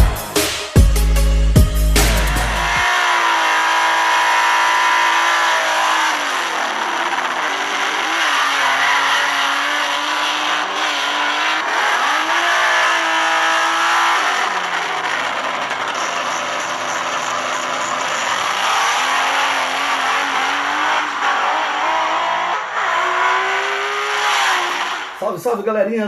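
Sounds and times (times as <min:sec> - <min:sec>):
car engine revving: 0:00.0 - 0:25.2.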